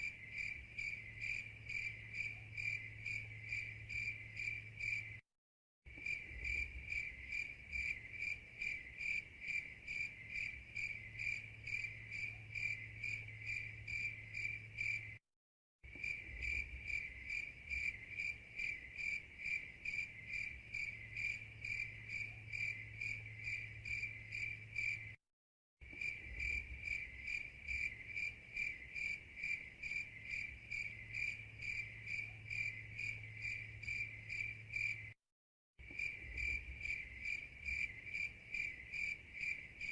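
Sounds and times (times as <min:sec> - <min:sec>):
crickets chirping: 0:00.0 - 0:05.2, 0:05.9 - 0:15.2, 0:15.9 - 0:25.2, 0:25.8 - 0:35.2, 0:35.8 - 0:39.9.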